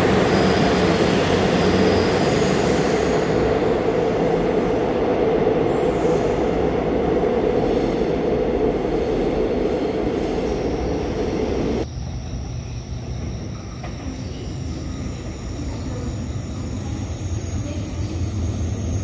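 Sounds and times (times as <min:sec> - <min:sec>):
train rumbling through station: 0:00.0 - 0:19.0.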